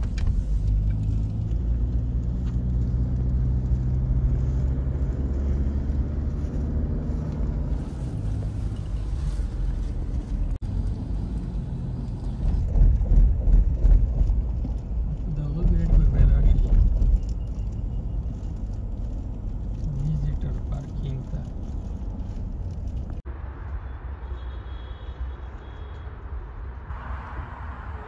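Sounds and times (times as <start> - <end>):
car road noise: 0.0 - 28.0.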